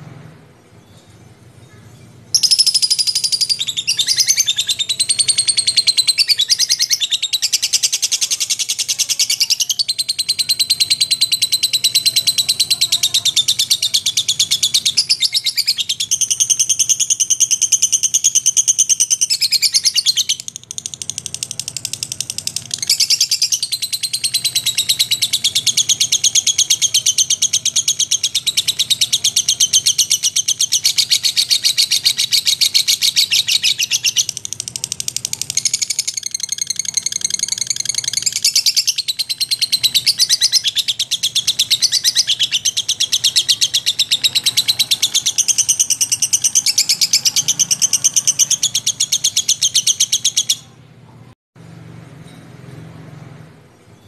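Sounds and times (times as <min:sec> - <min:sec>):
bird chattering trill: 0:02.3 - 0:50.8.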